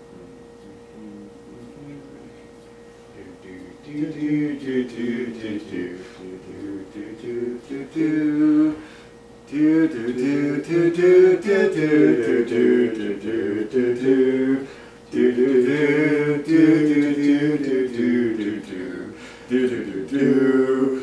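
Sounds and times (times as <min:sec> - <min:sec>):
men humming together: 0:00.0 - 0:21.0.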